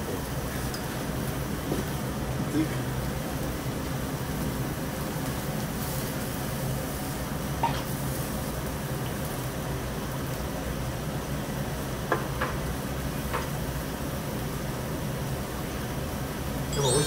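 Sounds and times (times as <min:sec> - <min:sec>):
meat sizzling on a grill: 0:00.0 - 0:16.6.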